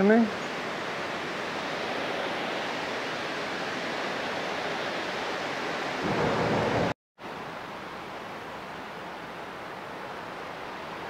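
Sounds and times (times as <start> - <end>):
water rushing from spillway: 0.0 - 11.0.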